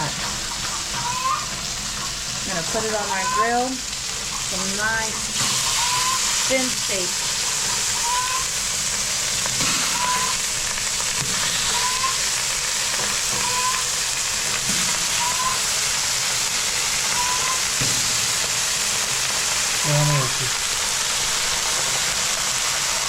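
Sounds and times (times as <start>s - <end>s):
steak sizzling on a griddle: 0.0s - 23.0s.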